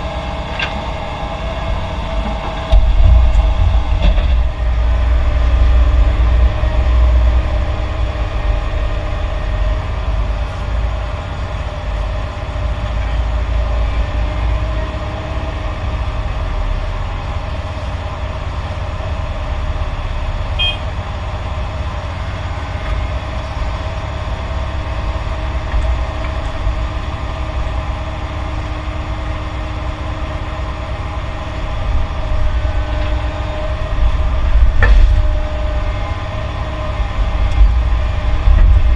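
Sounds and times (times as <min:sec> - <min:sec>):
diesel earthmoving machinery rumbling: 0:00.0 - 0:38.9.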